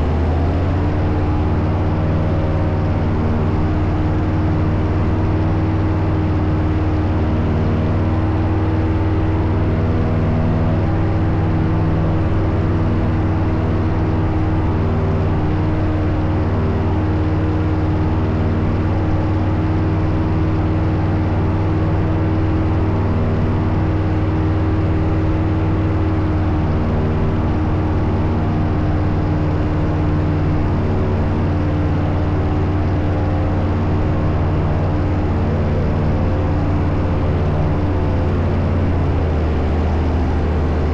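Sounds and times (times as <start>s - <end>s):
paramotor engine droning: 0.0s - 40.9s.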